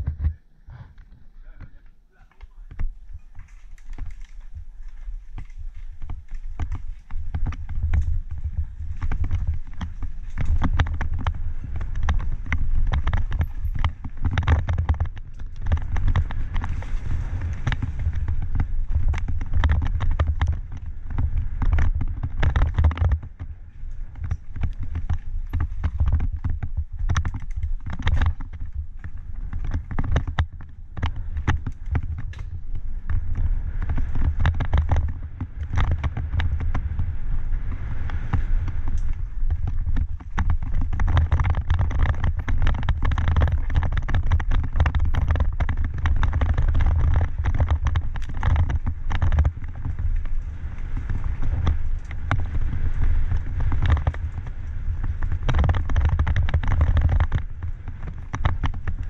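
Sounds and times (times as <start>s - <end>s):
bike rattles and knocks: 0.0s - 59.0s
tyre and wind rumble: 0.0s - 59.0s.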